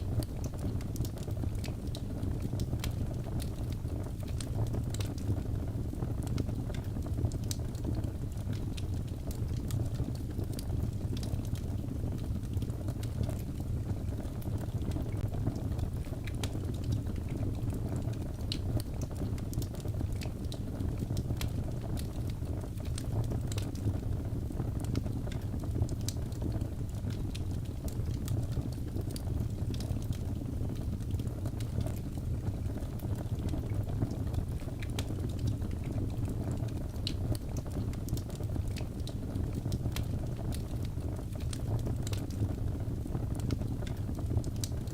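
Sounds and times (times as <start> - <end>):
burning logs crackling and popping: 0.0 - 44.9
flames rumbling in fireplace: 0.0 - 44.9.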